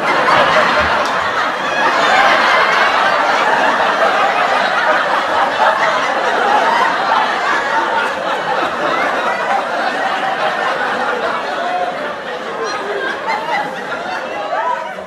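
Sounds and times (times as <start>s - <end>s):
studio audience laughing: 0.0s - 15.0s.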